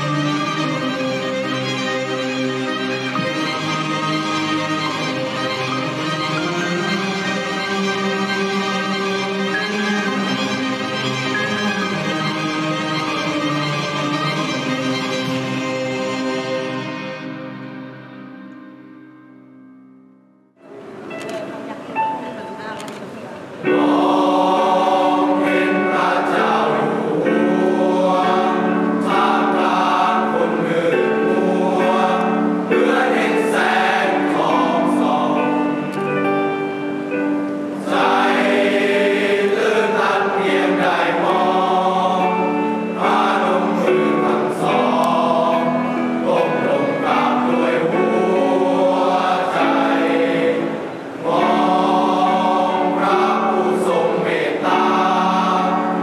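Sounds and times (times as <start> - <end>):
choir singing long held notes: 0.0 - 19.5, 23.4 - 56.0.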